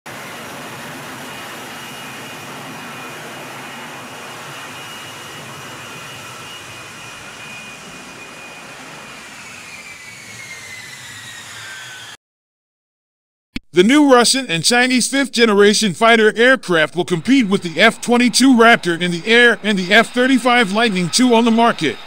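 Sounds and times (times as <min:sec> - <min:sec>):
jet engine whining at high power: 0:00.1 - 0:12.2, 0:15.3 - 0:22.0.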